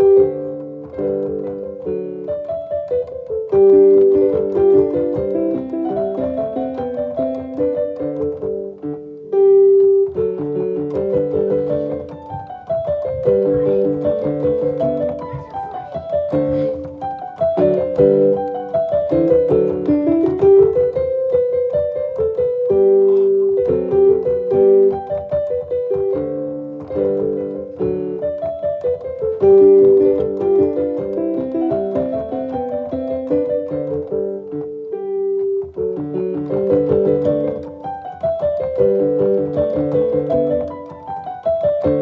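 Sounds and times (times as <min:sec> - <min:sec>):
gentle piano melody: 0:00.0 - 0:42.0.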